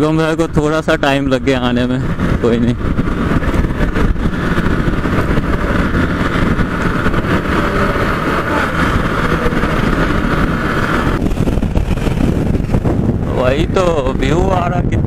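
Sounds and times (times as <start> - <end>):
motorcycle engine drone: 0.0 - 15.0
wind rumble on microphone: 0.0 - 15.0.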